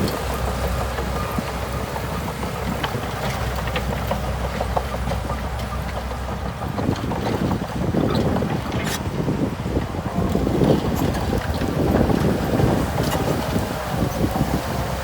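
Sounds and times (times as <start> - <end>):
bulldozer diesel engine rumble: 0.0 - 15.0.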